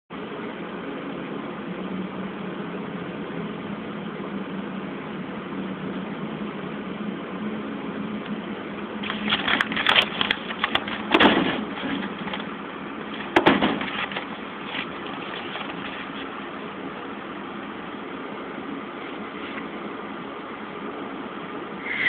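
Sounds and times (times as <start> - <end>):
electric fan humming: 0.1 - 22.0.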